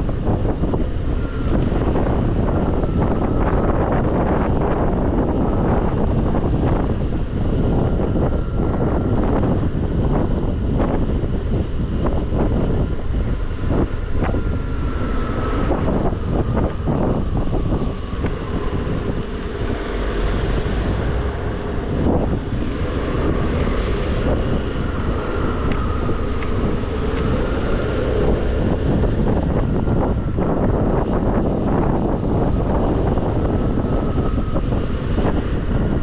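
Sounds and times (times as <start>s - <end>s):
scooter engine drone: 0.0s - 36.0s
wind buffeting microphone: 0.0s - 36.0s.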